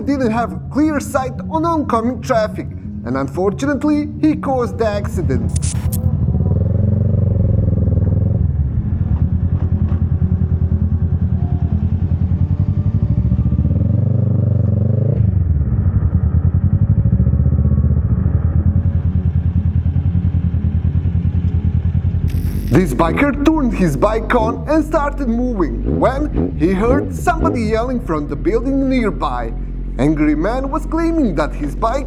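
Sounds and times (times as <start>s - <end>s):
motorcycle engine running: 6.1s - 32.0s.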